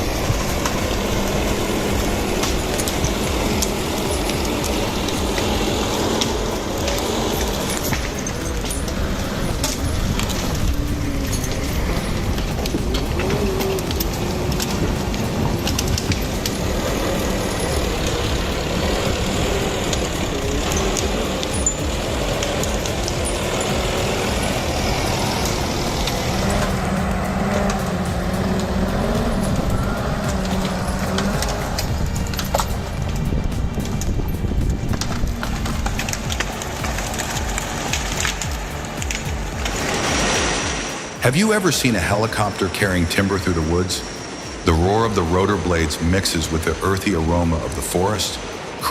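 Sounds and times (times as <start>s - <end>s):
droning tone: 0.0s - 48.9s
heavy machinery engine rumble: 0.0s - 48.9s.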